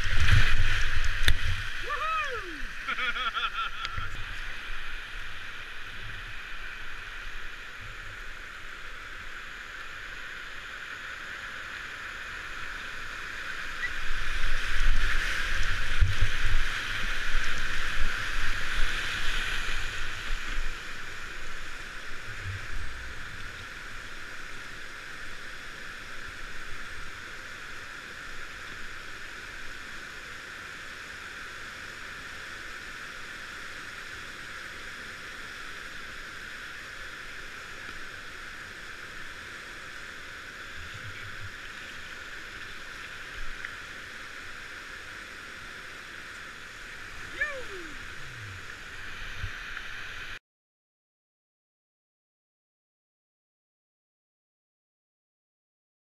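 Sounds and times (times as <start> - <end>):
river water rushing: 0.0 - 50.4.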